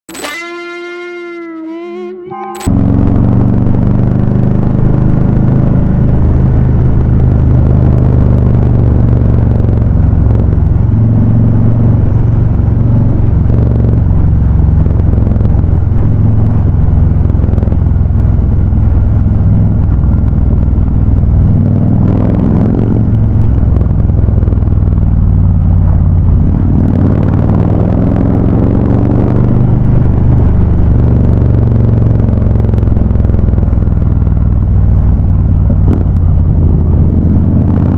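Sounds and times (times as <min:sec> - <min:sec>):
motorcycle exhaust rumbling: 0:00.2 - 0:37.9.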